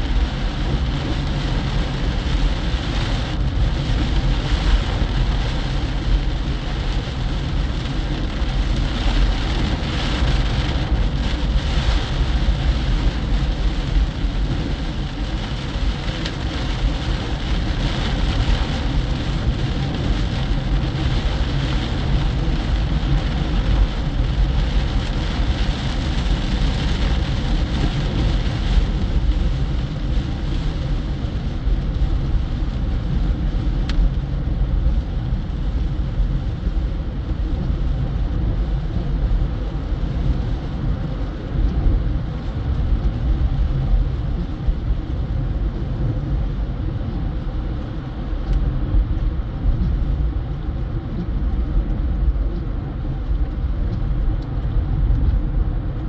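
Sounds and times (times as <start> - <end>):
heavy rain on a car: 0.0 - 56.0.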